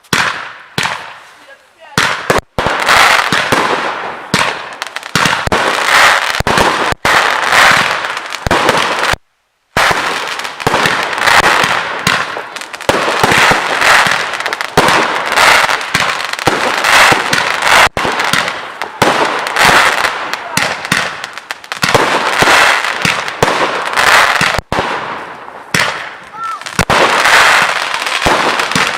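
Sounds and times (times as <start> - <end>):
fireworks launching and bursting: 0.0 - 28.9.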